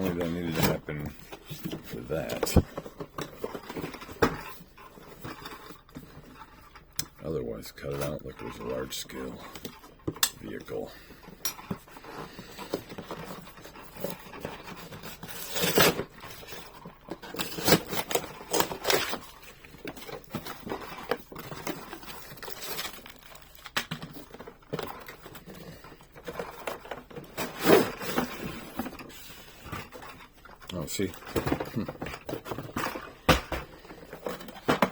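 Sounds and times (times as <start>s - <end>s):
toy packaging scraping and rustling: 0.0s - 34.9s.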